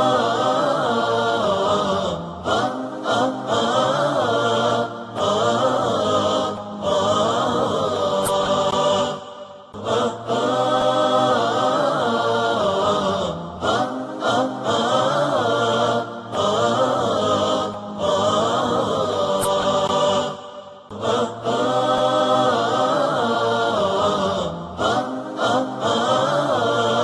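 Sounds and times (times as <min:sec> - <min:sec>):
choir singing wordless aah: 0:00.0 - 0:27.0.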